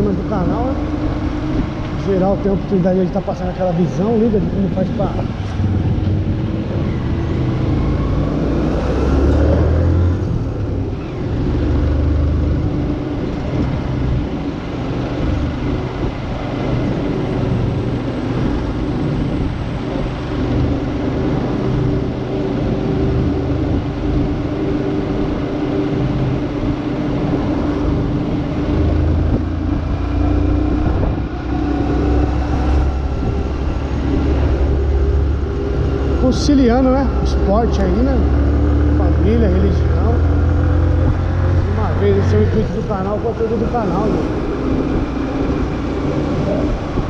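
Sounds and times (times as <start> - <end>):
road rumble: 0.0 - 47.0
vehicle engine running: 0.0 - 47.0.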